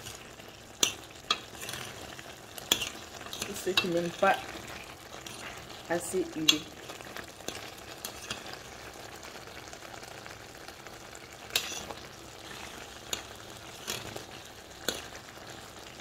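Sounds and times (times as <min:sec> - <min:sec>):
sauce bubbling and sizzling: 0:00.0 - 0:16.0.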